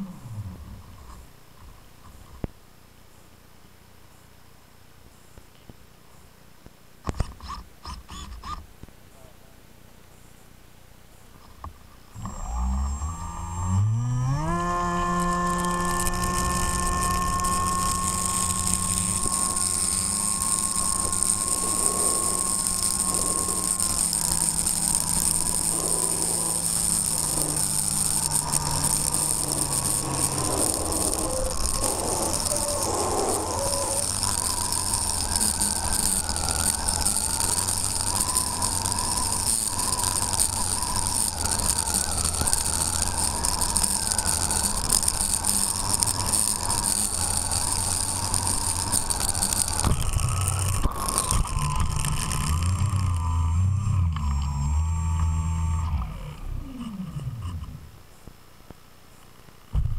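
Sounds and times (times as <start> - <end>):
model plane motor whine: 0.0 - 1.2, 7.1 - 8.6, 12.2 - 58.0.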